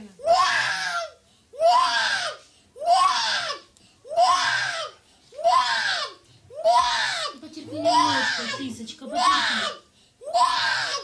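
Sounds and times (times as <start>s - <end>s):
young child crying: 0.2s - 11.0s.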